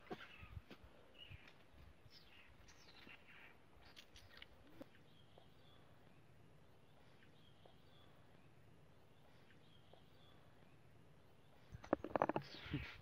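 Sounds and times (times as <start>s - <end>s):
faint high bird chirps: 0.0s - 13.0s.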